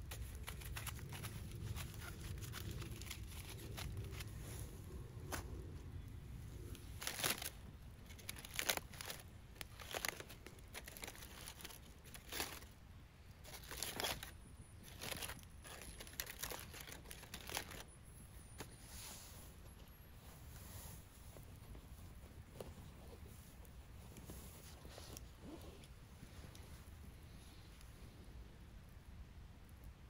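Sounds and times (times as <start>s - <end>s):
crinkling and rustling: 0.0s - 28.2s.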